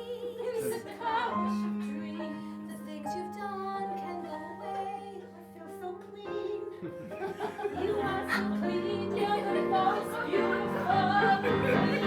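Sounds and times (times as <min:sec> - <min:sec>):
women singing: 0:00.0 - 0:12.0.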